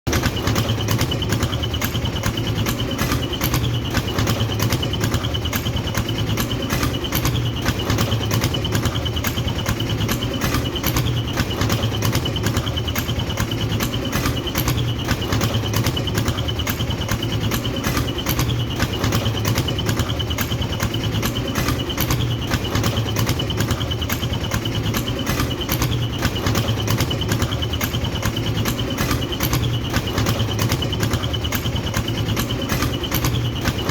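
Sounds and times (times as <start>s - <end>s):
small tractor engine running: 0.0s - 33.9s.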